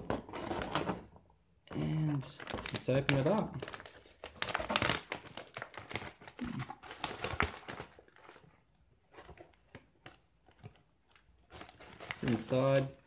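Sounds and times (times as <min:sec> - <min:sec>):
foil pouch crinkling: 0:02.3 - 0:13.0.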